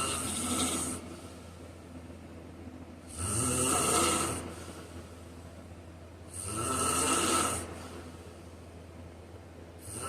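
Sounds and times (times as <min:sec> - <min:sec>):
steady low hum with hiss: 0:00.0 - 0:10.0.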